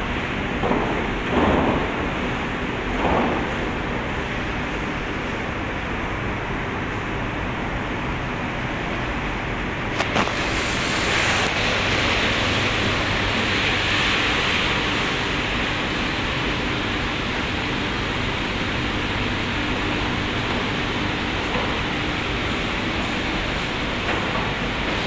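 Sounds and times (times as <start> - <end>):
factory machinery running: 0.0 - 25.0.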